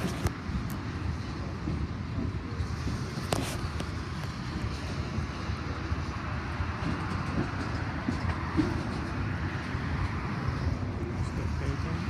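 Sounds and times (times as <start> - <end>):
faint rail clacks: 0.0 - 12.0
train wheels rumbling on rail: 0.0 - 12.0.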